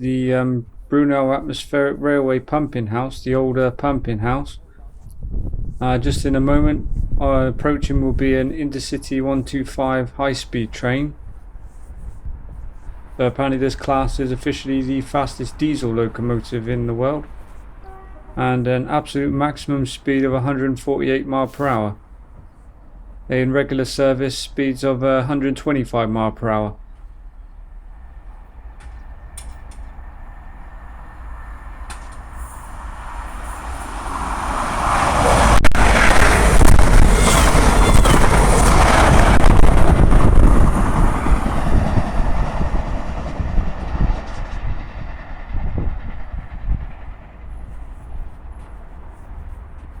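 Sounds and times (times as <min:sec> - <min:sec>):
train passing at speed: 0:00.0 - 0:50.0.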